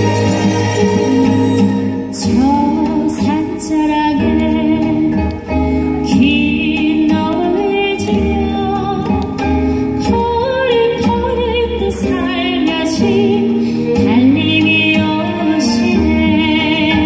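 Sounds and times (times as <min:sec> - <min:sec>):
soprano singing with vibrato: 0:00.0 - 0:05.2, 0:06.1 - 0:09.4, 0:10.0 - 0:17.0
instrumental accompaniment: 0:00.0 - 0:17.0.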